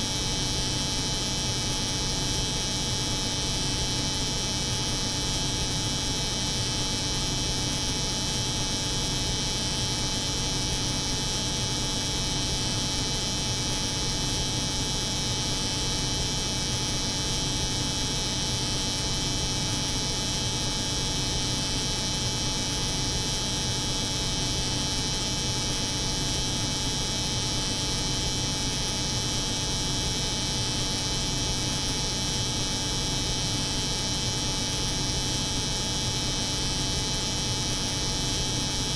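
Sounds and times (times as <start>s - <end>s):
refrigeration unit hum: 0.0s - 38.9s.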